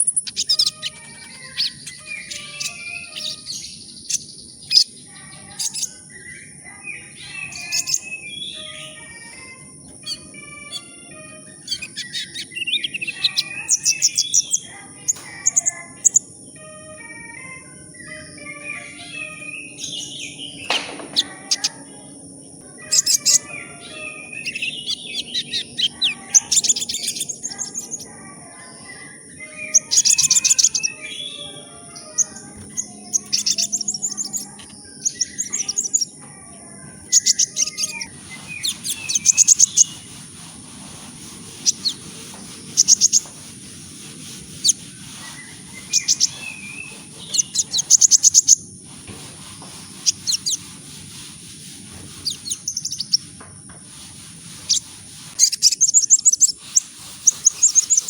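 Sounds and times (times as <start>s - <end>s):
bird rattling trills and chirps: 0.0s - 16.3s, 18.0s - 22.0s, 22.7s - 58.0s.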